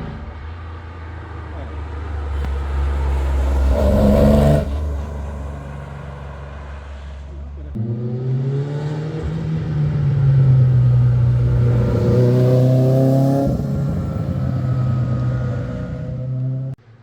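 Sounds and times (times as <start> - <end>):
rally car engine accelerating: 1.3 - 16.8.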